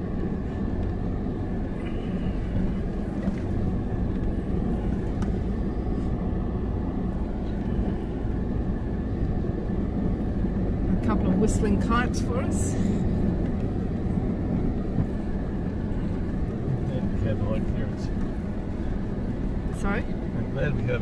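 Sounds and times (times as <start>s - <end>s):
vehicle engine and tyres droning: 0.0s - 21.0s.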